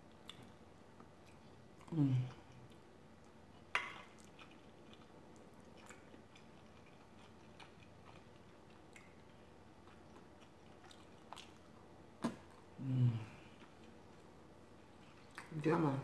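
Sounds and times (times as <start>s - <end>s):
faint chewing: 0.0s - 15.8s.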